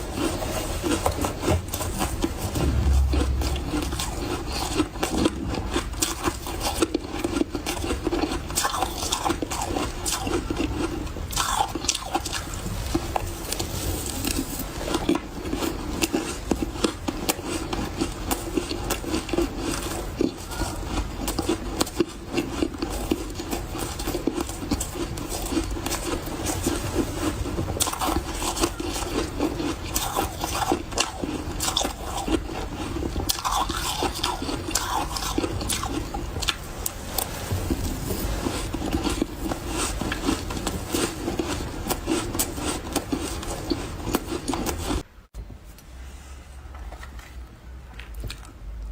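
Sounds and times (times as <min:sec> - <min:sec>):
ice being chewed: 0:00.0 - 0:45.1.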